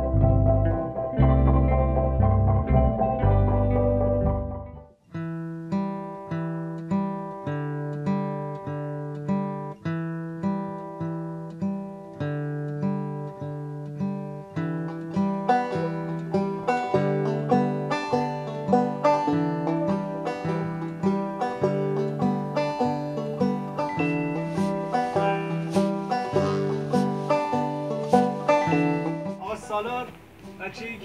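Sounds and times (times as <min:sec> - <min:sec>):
plucked acoustic guitar: 0:00.0 - 0:30.6.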